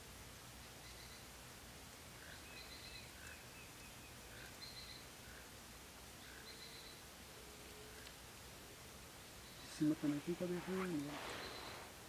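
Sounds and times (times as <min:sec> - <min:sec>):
low steady background hiss: 0:00.0 - 0:12.0
faint bird chirps: 0:00.8 - 0:01.4, 0:02.1 - 0:05.6, 0:06.2 - 0:12.0.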